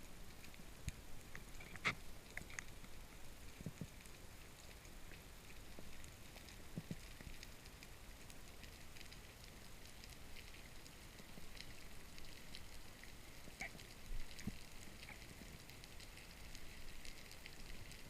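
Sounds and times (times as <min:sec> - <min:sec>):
underwater crackle of clicks: 0:00.0 - 0:18.0.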